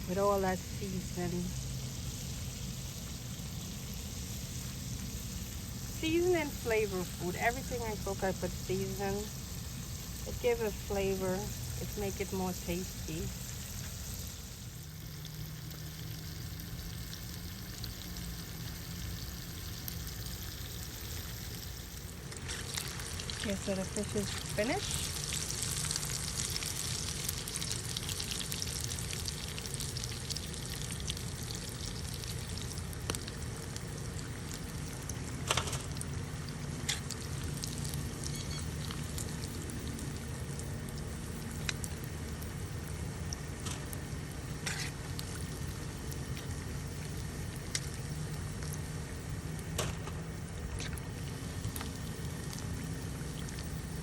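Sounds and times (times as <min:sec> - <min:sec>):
fish sizzling in hot oil: 0:00.0 - 0:54.0.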